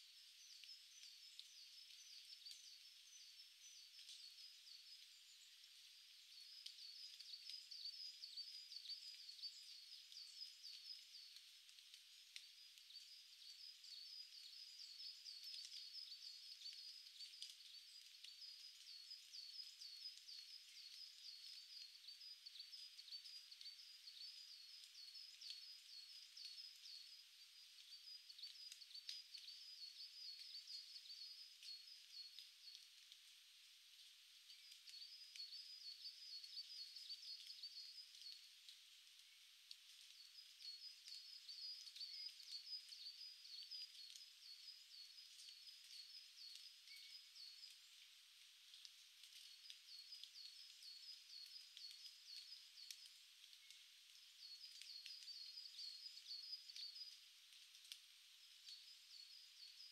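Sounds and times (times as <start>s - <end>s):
small birds chirping: 0.0s - 59.9s
soft ticks: 0.4s - 59.9s.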